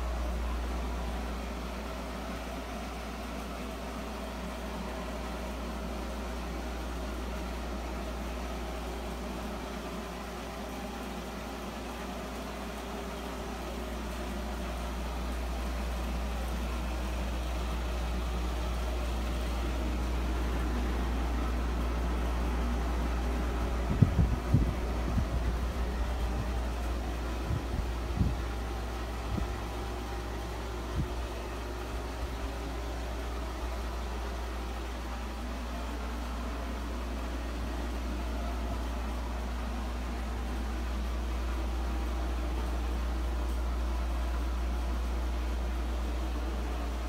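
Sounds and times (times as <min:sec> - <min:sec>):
machine hum with low rumble: 0:00.0 - 0:47.0.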